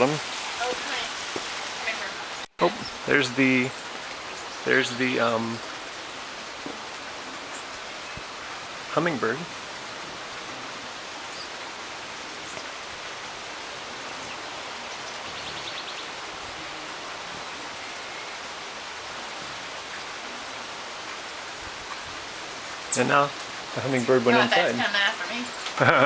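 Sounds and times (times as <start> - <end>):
river flowing: 0.0 - 26.0.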